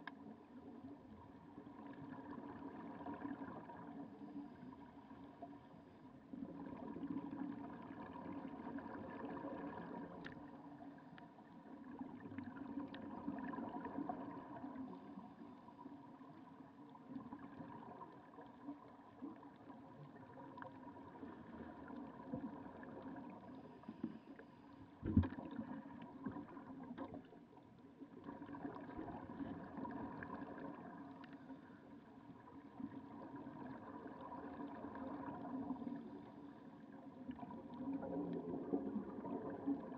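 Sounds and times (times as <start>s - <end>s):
faint steady hum: 0.0s - 39.9s
underwater exhaled air bubbling: 0.0s - 39.9s.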